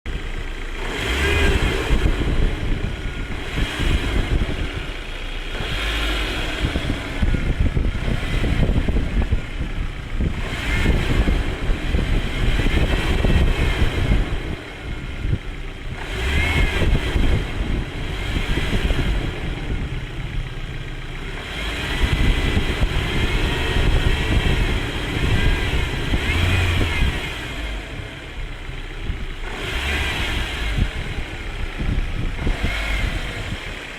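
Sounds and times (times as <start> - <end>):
turbocharged engine revving: 0.1 - 33.9
thin engine whine: 0.2 - 33.9.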